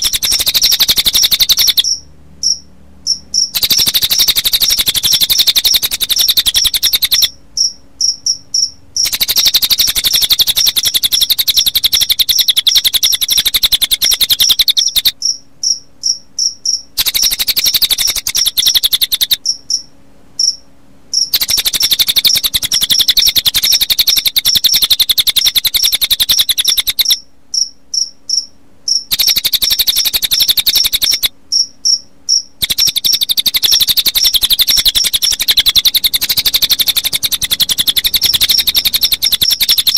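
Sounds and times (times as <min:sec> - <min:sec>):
high-pitched bird trill: 0:00.0 - 0:20.6, 0:21.2 - 0:39.9
crickets chirping: 0:00.0 - 0:39.9.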